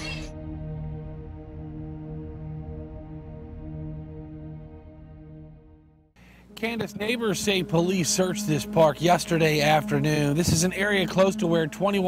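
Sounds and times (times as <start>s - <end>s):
slow ambient music: 0.0s - 12.0s.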